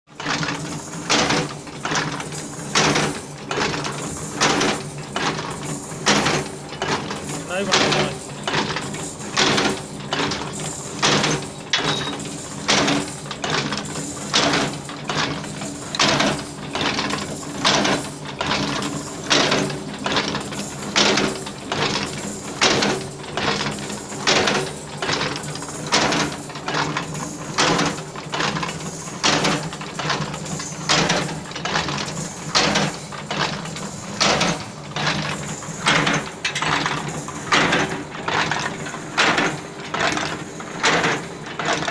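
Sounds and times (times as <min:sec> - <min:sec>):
machine forming stroke clanking: 0:00.2 - 0:41.9.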